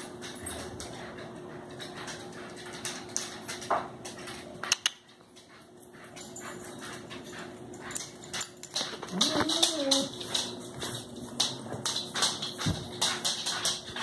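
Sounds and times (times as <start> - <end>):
dog claws scratching and clicking: 0.0 - 14.0.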